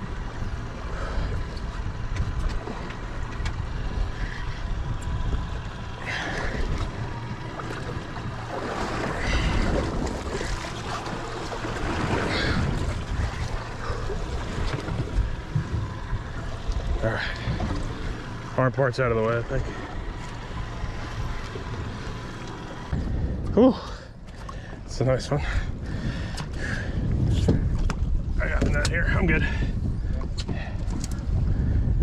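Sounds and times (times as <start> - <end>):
wind rumbling on microphone: 0.0 - 18.5, 19.6 - 32.0
water sloshing against boat hull: 0.0 - 31.7.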